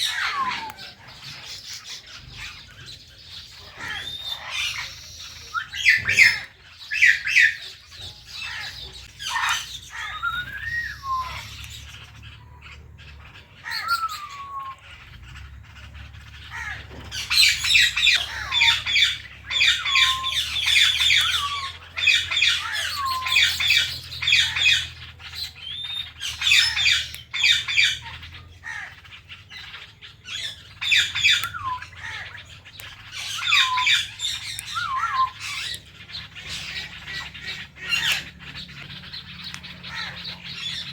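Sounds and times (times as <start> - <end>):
parrots chirping and squawking: 0.0 - 40.9.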